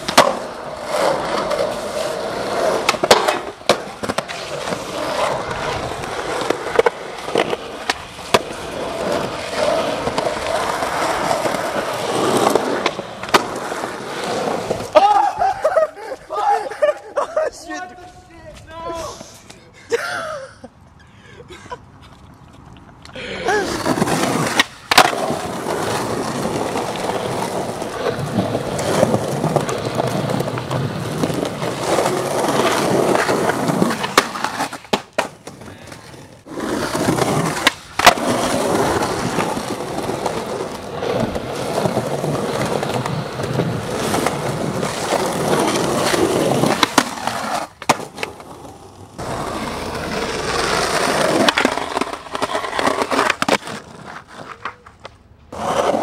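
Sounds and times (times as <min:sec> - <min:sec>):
skateboard clacks: 0:00.0 - 0:15.2, 0:23.6 - 0:56.0
skateboard scraping on a ledge: 0:00.0 - 0:15.4, 0:23.5 - 0:56.0
skateboard wheels rolling on concrete: 0:00.0 - 0:56.0.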